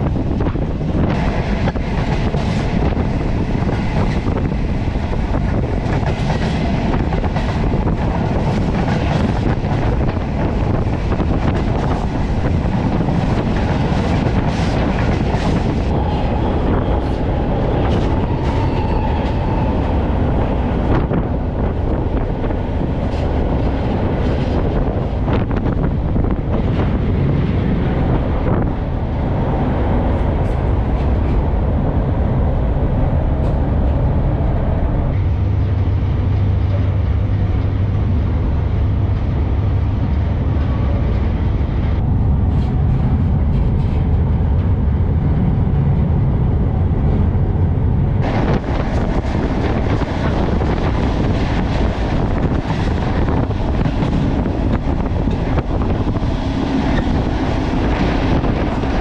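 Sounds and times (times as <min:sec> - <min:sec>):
train rumbling on rails: 0:00.0 - 0:59.0
wind blasting across microphone: 0:00.0 - 0:59.0.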